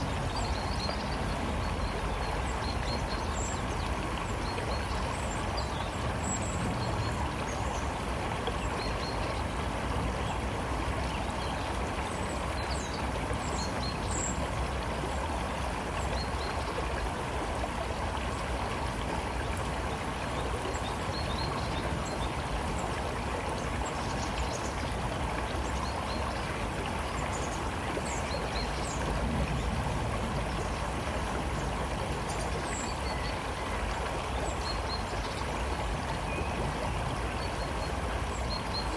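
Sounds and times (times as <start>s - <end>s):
river water rushing and gurgling: 0.0s - 38.9s.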